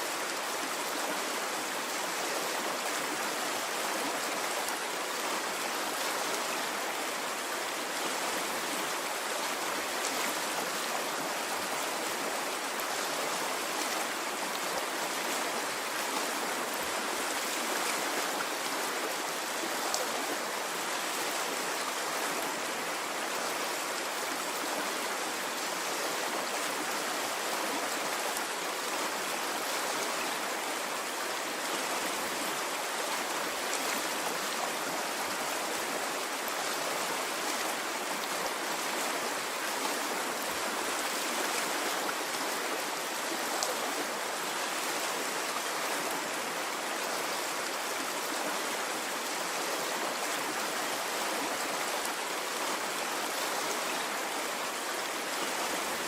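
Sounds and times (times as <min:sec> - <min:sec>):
water stream flowing: 0:00.0 - 0:56.0.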